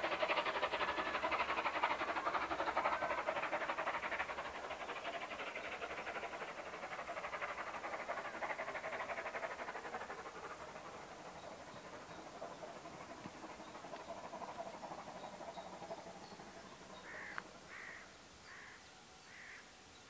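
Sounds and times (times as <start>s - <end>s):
steam train running: 0.0s - 18.6s.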